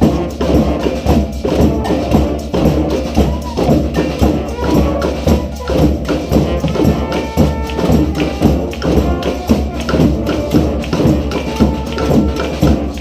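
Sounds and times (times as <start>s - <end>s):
brass band horn lines: 0.0s - 13.0s
percussion beat: 0.0s - 13.0s.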